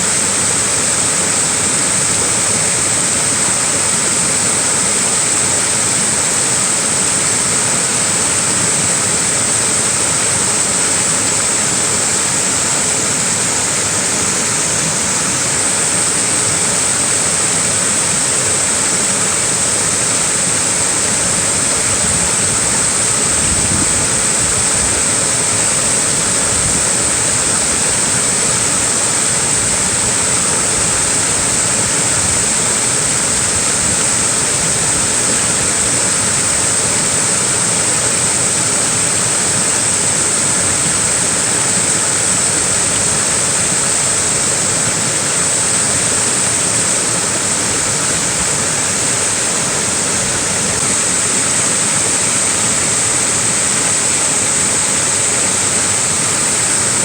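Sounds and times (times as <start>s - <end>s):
small waterfall rushing: 0.0s - 57.0s.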